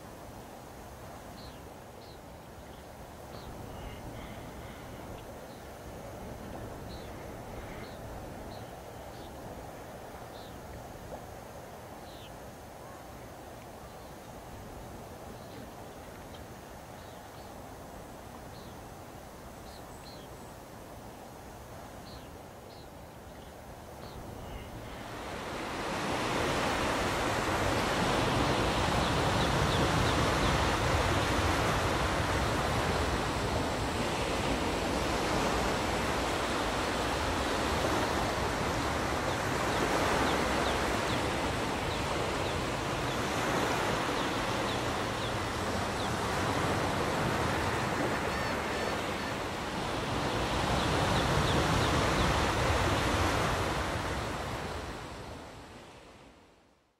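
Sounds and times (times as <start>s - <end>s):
ocean waves on a beach: 0.0s - 56.9s.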